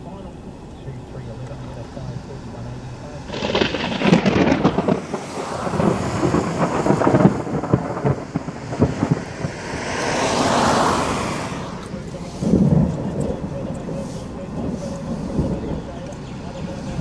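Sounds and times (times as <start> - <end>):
rain falling: 0.0 - 17.0
thunder crackling and rumbling: 1.0 - 17.0
rushing swell: 1.7 - 15.6.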